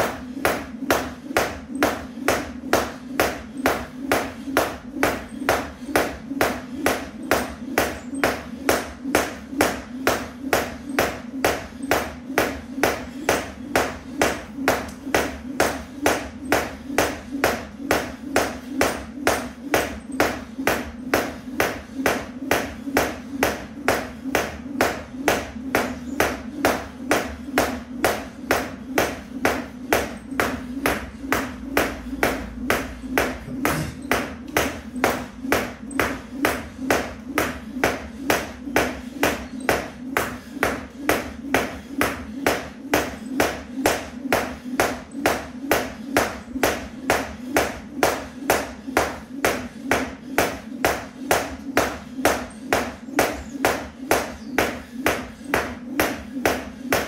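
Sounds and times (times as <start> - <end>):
skipping rope slapping a mat: 0.0 - 57.0.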